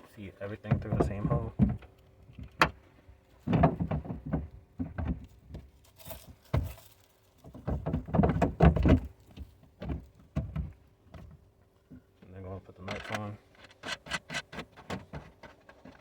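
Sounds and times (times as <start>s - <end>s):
plastic knocks and rustles: 0.6s - 2.8s, 3.4s - 12.1s, 12.9s - 16.0s.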